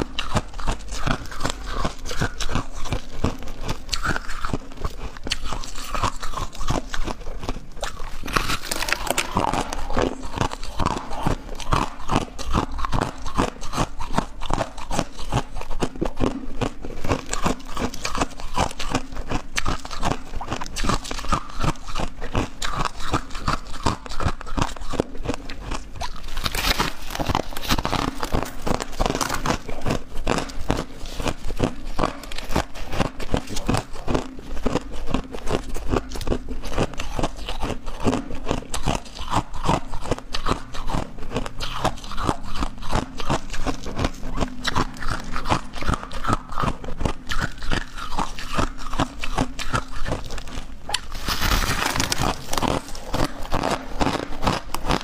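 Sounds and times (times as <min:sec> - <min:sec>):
crushed ice being chewed: 0:00.0 - 0:55.0.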